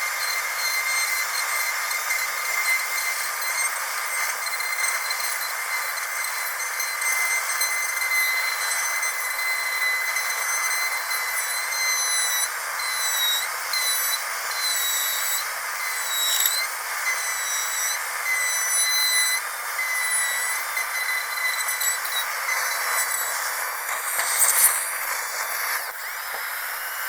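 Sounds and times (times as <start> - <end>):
dentist's drill whining: 0.0 - 27.0.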